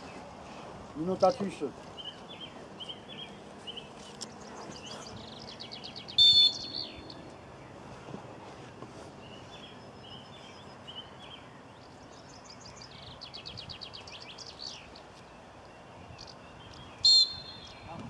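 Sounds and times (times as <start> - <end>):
outdoor background hiss: 0.0 - 18.0
birds singing: 1.0 - 18.0.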